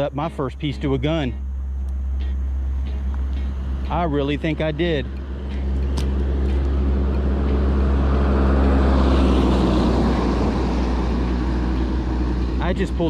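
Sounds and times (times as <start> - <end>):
steady low hum: 0.0 - 13.0
vehicle passing by: 1.0 - 13.0.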